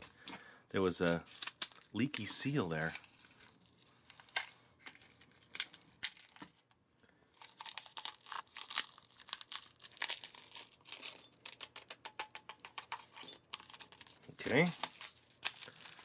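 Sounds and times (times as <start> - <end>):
popping candy crackling: 0.0 - 16.0
candy pouch crinkling: 1.0 - 6.7, 7.3 - 16.0.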